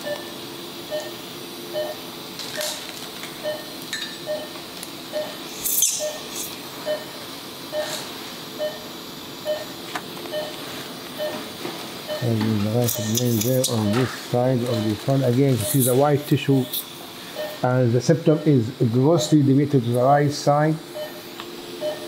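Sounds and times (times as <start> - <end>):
patient monitor beeping: 0.0 - 18.7, 20.9 - 22.0.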